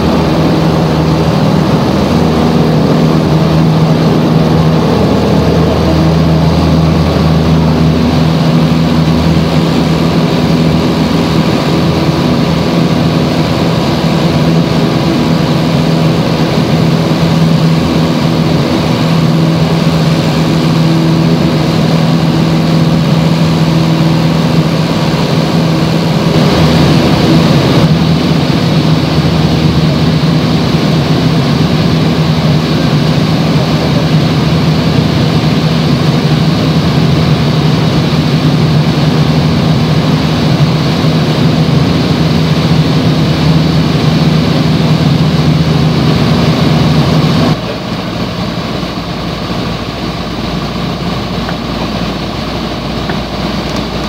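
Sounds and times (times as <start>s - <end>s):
airplane engine droning: 0.0s - 54.0s.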